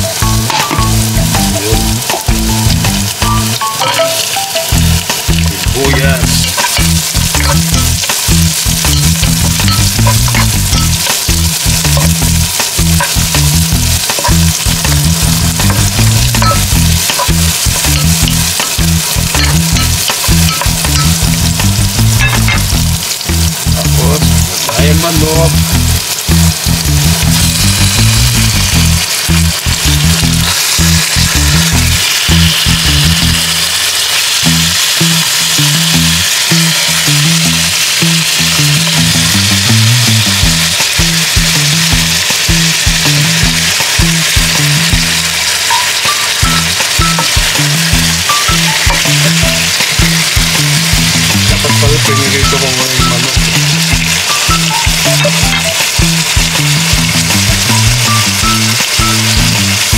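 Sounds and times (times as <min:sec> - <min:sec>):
garlic and onion sizzling in oil: 0:00.0 - 0:59.9.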